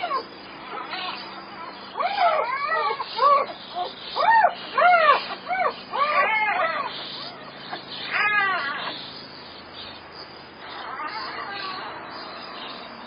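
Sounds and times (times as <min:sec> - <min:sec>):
puppies whimpering and squeaking: 0:00.0 - 0:13.0.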